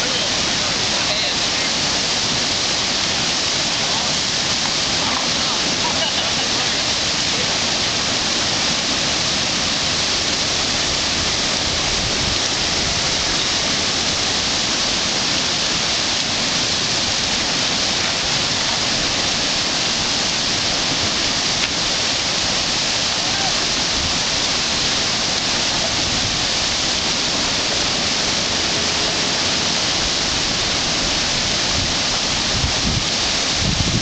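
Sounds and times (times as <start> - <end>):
whitewater rushing: 0.0 - 34.0.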